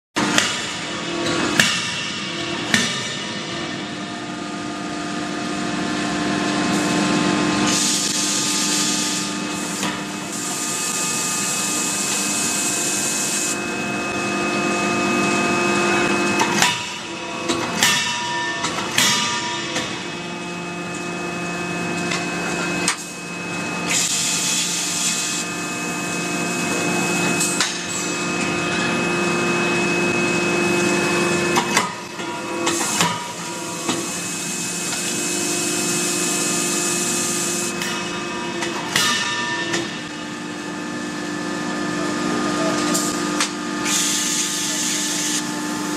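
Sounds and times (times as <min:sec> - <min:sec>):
steady machine hum: 0:00.2 - 0:45.9.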